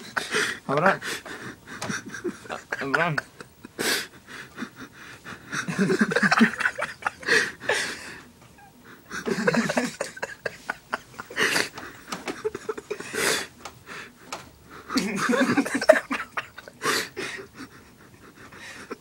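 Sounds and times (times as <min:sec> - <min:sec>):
people giggling and snickering: 0:00.0 - 0:08.0, 0:08.9 - 0:13.5, 0:14.9 - 0:19.0.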